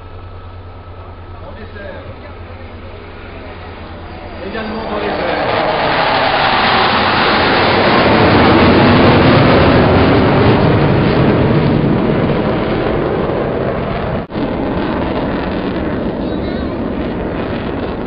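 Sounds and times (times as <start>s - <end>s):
jet flypast roar: 0.0s - 18.0s.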